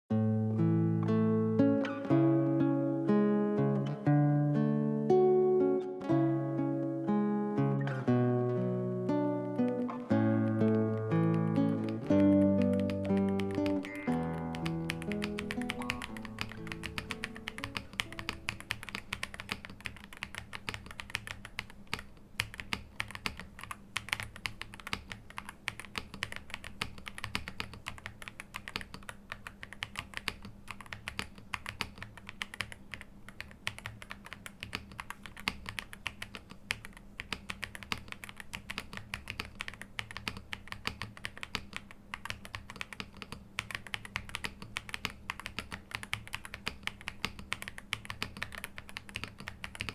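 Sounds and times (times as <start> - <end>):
mechanical keyboard typing: 9.6 - 49.9.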